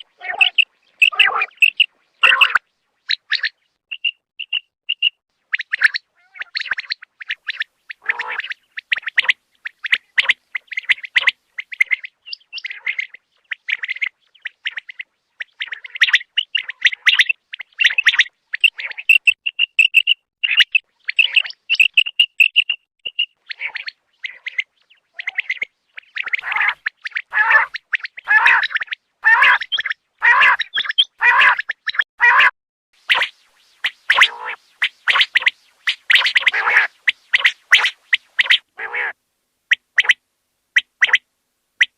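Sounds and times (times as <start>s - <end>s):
quail calling: 0.0s - 40.2s, 40.8s - 41.2s.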